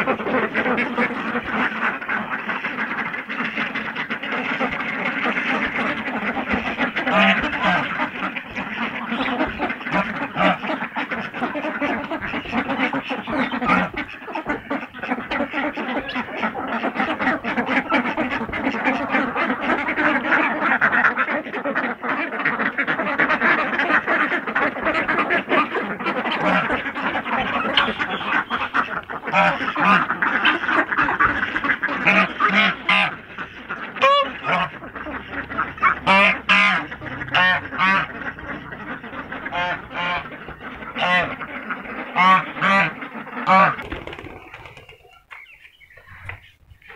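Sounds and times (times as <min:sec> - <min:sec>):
ducks quacking: 0:00.0 - 0:46.9
goose honking: 0:00.0 - 0:46.9.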